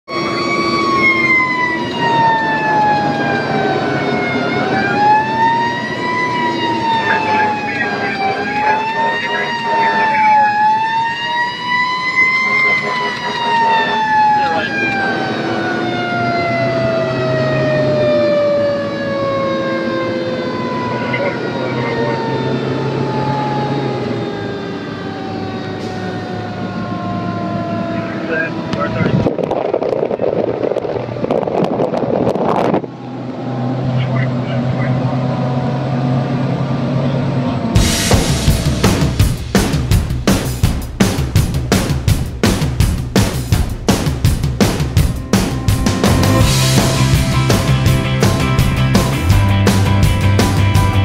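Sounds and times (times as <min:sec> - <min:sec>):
fire truck siren wailing: 0:00.0 - 0:42.8, 0:43.5 - 0:51.0
truck engine and road noise: 0:00.1 - 0:51.0.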